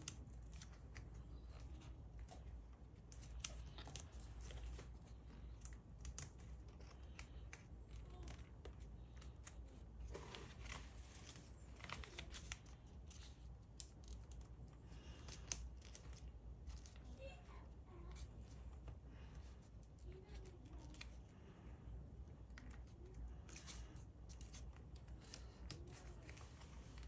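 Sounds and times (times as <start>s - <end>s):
paper being folded and creased: 0.0s - 17.2s, 17.9s - 21.5s, 22.5s - 27.0s.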